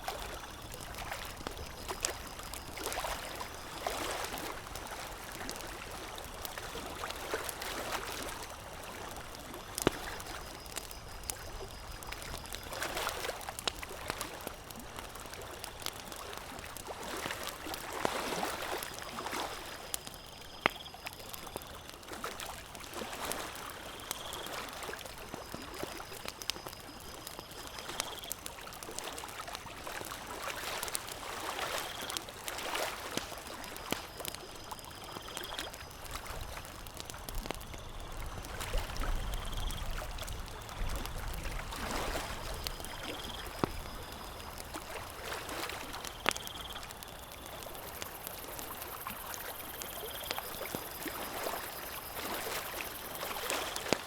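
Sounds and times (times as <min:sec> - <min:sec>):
campfire crackling: 0:00.0 - 0:54.0
water lapping at shore: 0:00.0 - 0:54.0.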